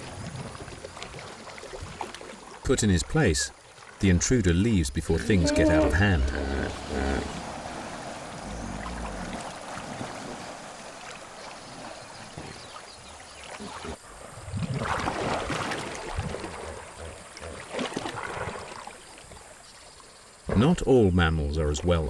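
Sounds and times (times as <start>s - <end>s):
water splashing around animals: 0.0s - 22.0s.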